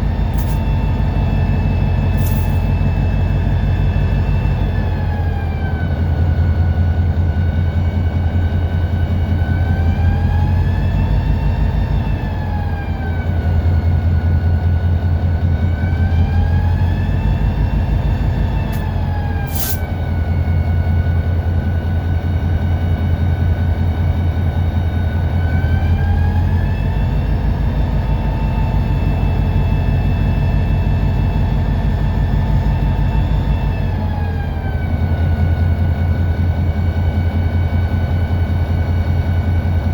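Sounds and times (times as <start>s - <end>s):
locomotive diesel engine rumble: 0.0s - 39.9s.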